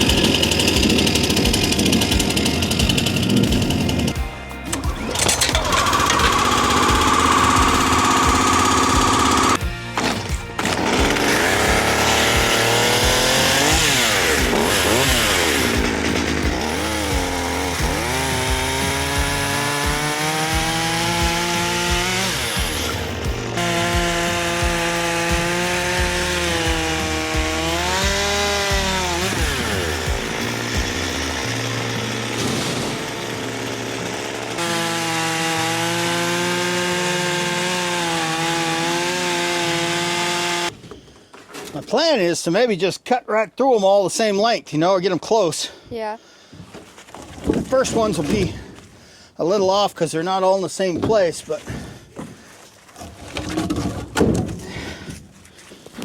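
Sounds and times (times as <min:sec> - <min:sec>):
chainsaw cutting logs: 0:00.0 - 0:41.7, 0:45.9 - 0:56.0.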